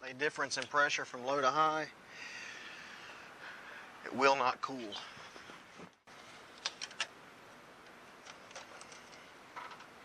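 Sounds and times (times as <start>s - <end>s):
low hiss: 0.0s - 10.0s.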